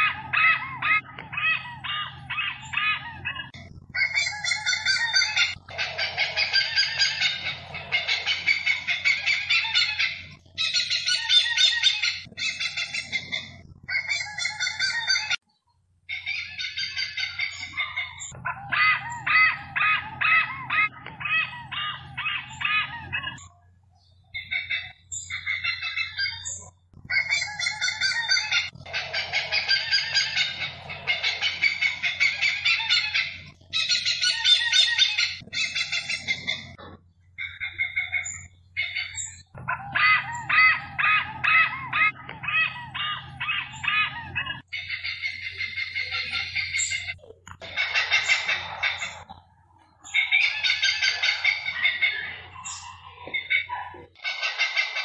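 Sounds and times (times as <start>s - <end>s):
birds calling harshly: 0.0s - 55.0s.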